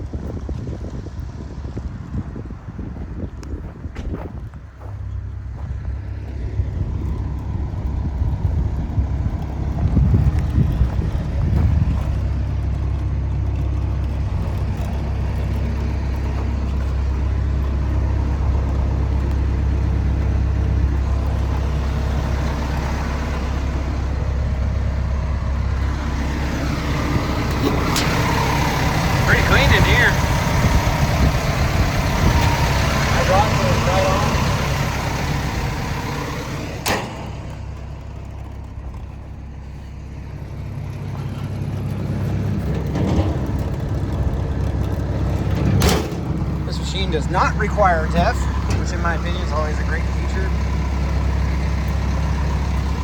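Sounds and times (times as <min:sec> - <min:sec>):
excavator diesel engine droning: 0:04.6 - 0:53.0.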